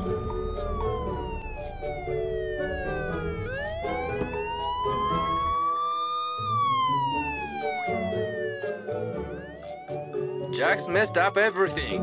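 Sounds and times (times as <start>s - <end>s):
background music: 0.0s - 12.0s
siren wailing: 0.0s - 12.0s.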